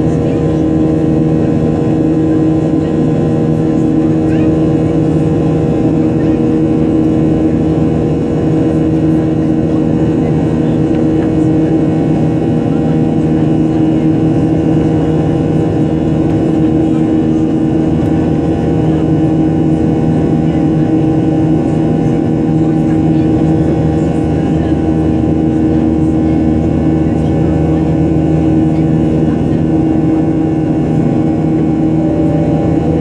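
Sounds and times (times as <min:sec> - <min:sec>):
jet engine drone in cabin: 0:00.0 - 0:33.0.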